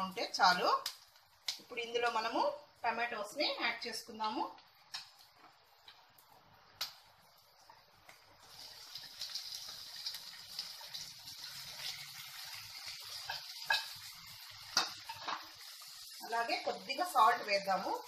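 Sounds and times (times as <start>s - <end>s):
tomatoes sizzling in hot oil: 0.0s - 18.0s.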